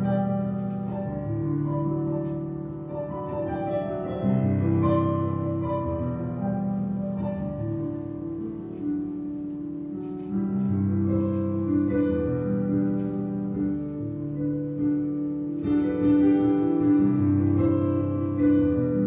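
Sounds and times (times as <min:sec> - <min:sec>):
slow instrumental music: 0:00.0 - 0:19.0.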